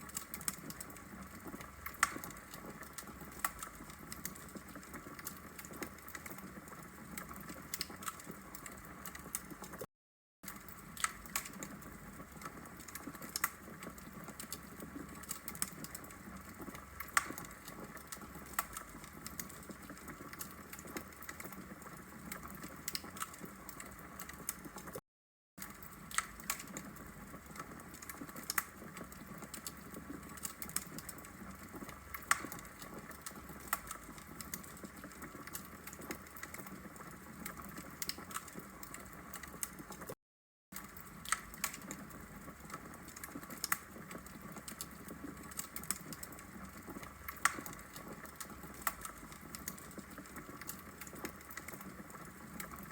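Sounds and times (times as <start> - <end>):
fire crackling and popping: 0.0 - 25.0, 25.6 - 40.2, 40.8 - 52.9.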